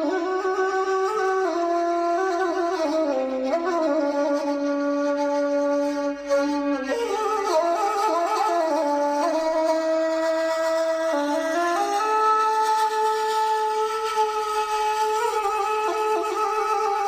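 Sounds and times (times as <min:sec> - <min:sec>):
woodwind melody: 0:00.0 - 0:17.0.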